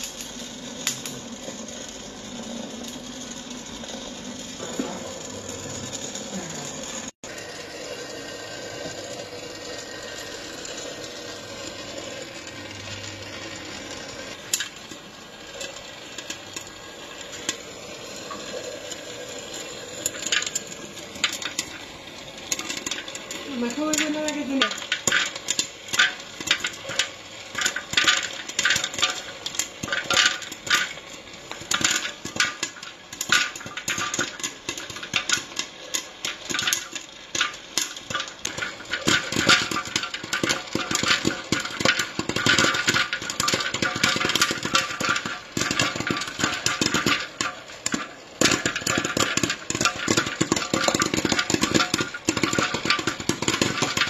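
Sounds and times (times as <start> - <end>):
popcorn kernels popping: 0.0 - 54.0
popcorn machine humming: 0.0 - 54.0.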